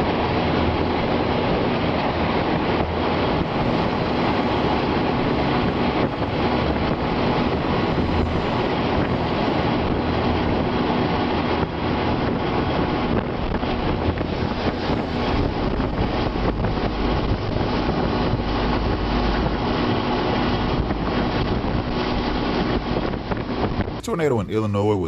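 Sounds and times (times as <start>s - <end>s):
wind rushing on microphone: 0.0s - 24.0s.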